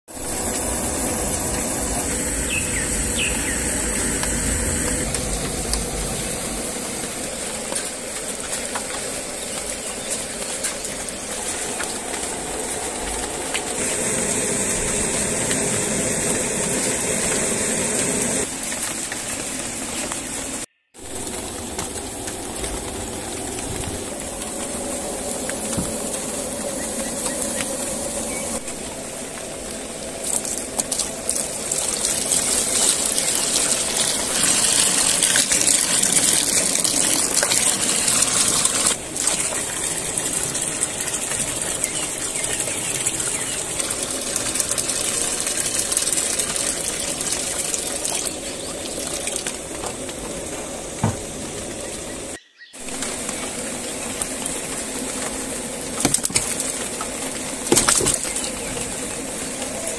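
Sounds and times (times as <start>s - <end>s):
steady rain falling: 0.1s - 59.9s.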